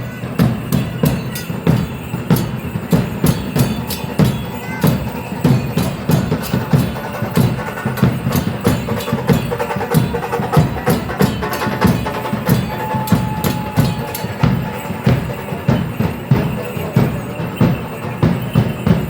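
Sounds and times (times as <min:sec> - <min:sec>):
low drum beating: 0:00.0 - 0:19.0.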